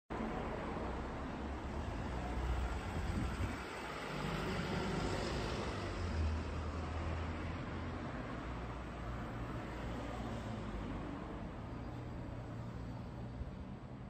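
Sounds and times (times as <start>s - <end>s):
city traffic noise: 0.1s - 14.0s.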